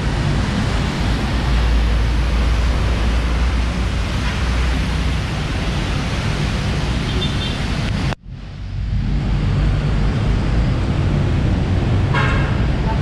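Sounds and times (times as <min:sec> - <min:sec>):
traffic: 0:00.0 - 0:13.0.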